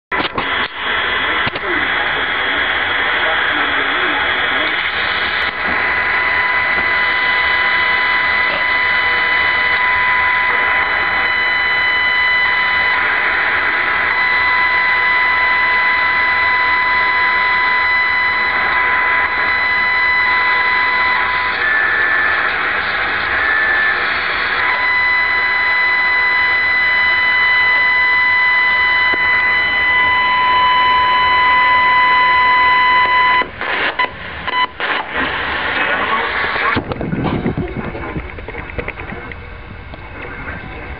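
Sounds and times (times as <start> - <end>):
high-pitched radio whine: 0.0 - 40.9
radio static hiss: 0.1 - 40.9.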